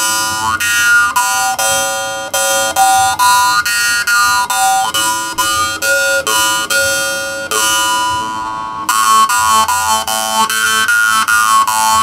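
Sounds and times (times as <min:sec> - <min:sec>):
jaw harp twanging melody: 0:00.0 - 0:12.0.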